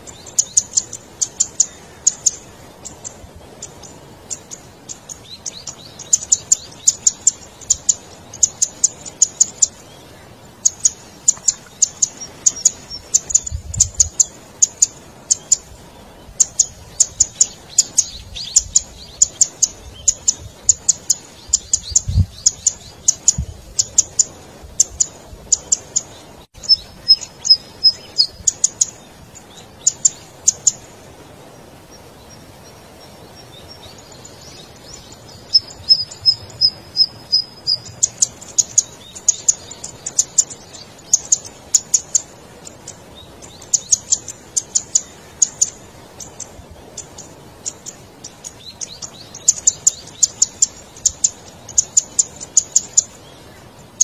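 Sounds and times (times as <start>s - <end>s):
bird clearer evenly spaced notes: 0.0s - 54.0s.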